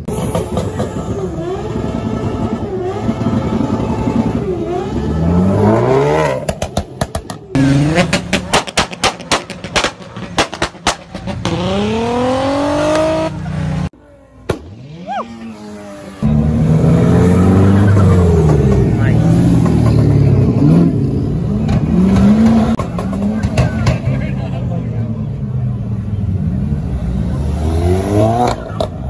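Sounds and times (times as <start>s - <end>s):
car accelerating: 0.0s - 29.0s
car engines revving hard: 0.0s - 29.0s.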